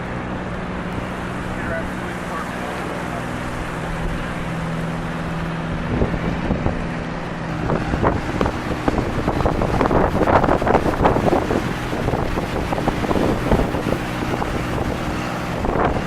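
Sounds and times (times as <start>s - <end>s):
low motor hum: 0.0s - 16.0s
wind buffeting microphone: 0.0s - 16.0s.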